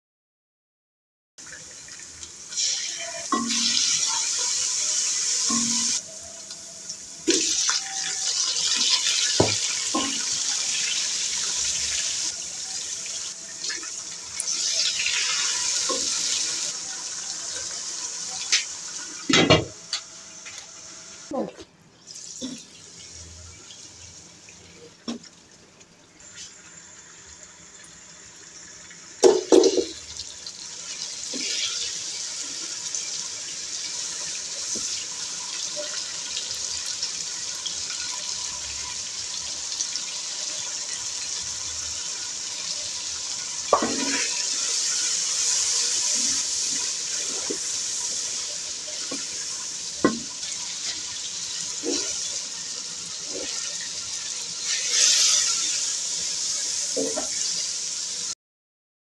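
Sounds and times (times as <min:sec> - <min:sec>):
beef and onions sizzling: 0:01.5 - 0:21.4, 0:22.0 - 0:25.2, 0:26.2 - 0:58.4.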